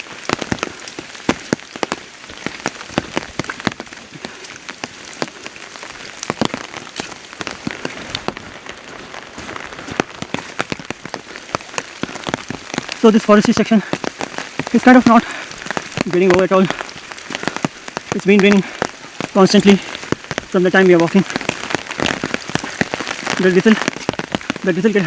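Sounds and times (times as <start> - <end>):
raindrops tapping on umbrella: 0.0 - 25.0
steady rain: 0.0 - 25.0.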